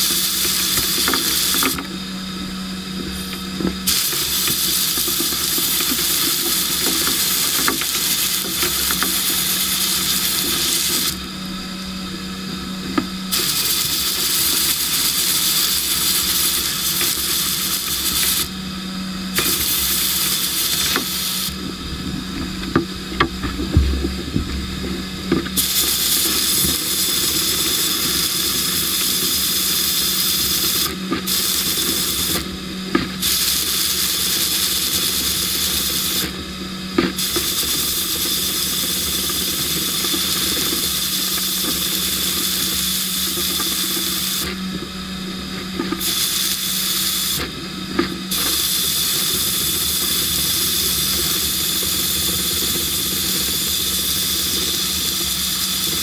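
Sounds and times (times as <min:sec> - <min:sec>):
sandblasting gun hissing: 0:00.0 - 0:12.4, 0:13.0 - 0:21.8, 0:25.5 - 0:32.6, 0:33.2 - 0:36.4, 0:37.1 - 0:44.7, 0:45.7 - 0:47.5, 0:48.2 - 0:56.0
steady hum: 0:00.0 - 0:56.0.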